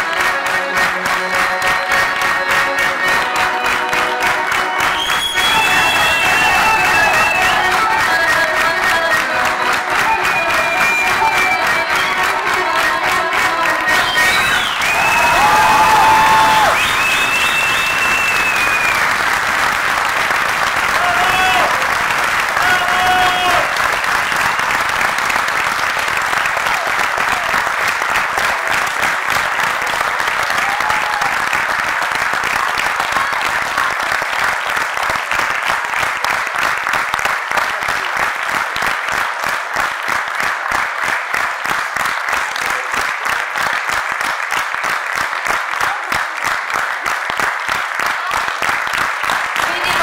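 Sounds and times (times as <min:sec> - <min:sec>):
audience applauding: 0:00.0 - 0:50.0
rhythmic clapping in unison: 0:00.0 - 0:50.0.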